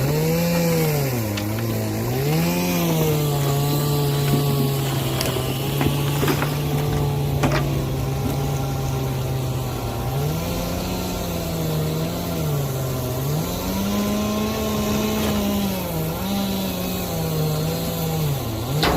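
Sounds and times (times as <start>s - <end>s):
engine running and revving: 0.0s - 18.9s.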